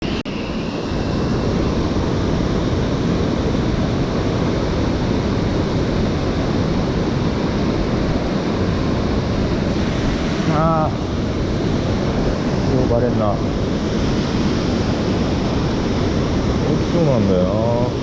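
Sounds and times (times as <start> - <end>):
mountain stream rushing: 0.1 - 18.0.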